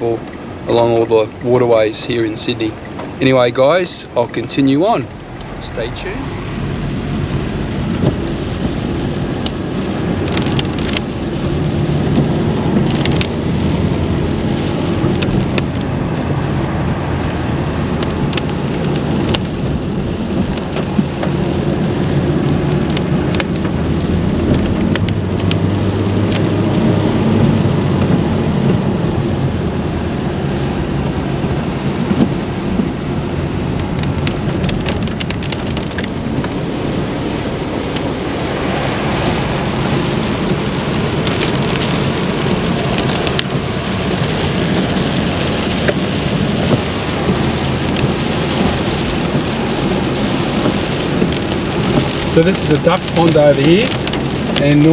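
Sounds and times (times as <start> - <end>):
rain on moving car: 0.0 - 54.9
raindrops ticking on windscreen: 0.0 - 54.9
road and engine noise: 0.0 - 54.9.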